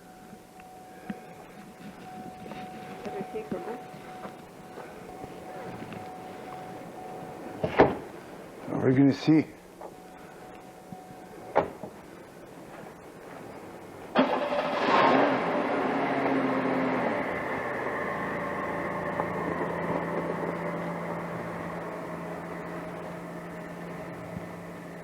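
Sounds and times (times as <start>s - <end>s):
motor droning: 0.0s - 8.6s, 9.9s - 25.0s.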